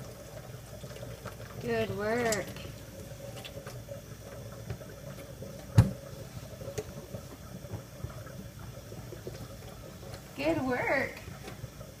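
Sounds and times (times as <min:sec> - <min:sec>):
water trickling into a sink: 0:00.0 - 0:12.0.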